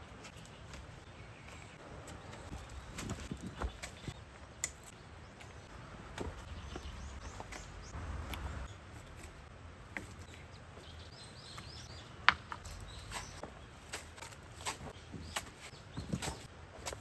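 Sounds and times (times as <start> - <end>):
bird chirping: 0.0 - 9.3, 10.0 - 16.5.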